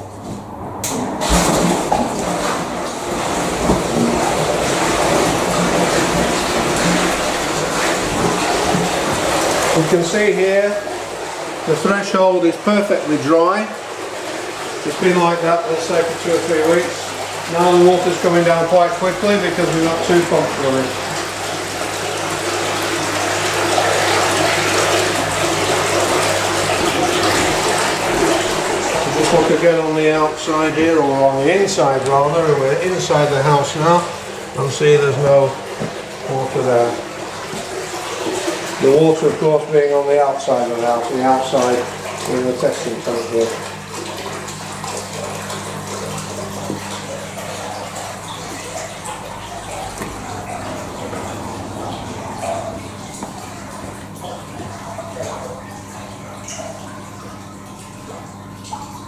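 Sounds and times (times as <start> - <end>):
pumps humming: 0.0 - 59.0
water rushing and splashing: 0.0 - 59.0.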